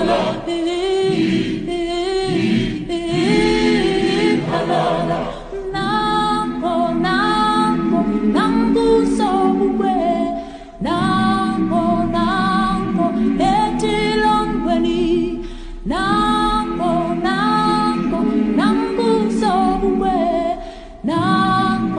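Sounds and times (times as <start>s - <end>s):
a cappella group singing: 0.0s - 21.9s.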